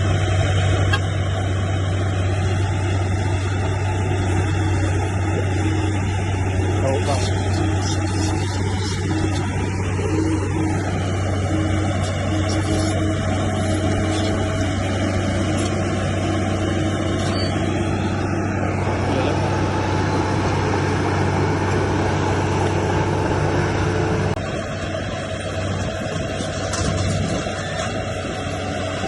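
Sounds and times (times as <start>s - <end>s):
heavy machinery diesel engine running: 0.0s - 29.0s.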